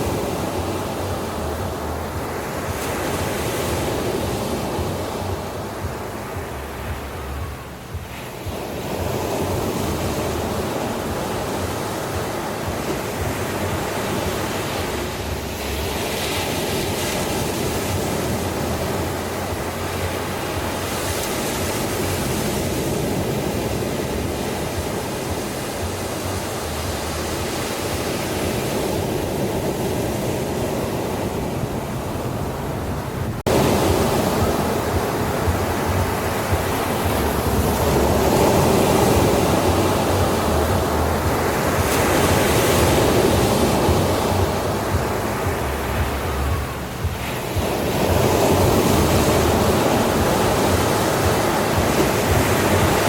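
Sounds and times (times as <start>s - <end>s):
ocean surf on a beach: 0.0s - 53.0s.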